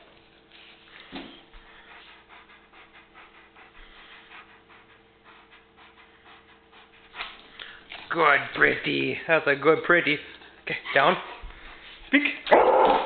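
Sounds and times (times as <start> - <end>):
dog panting: 0.0 - 12.5.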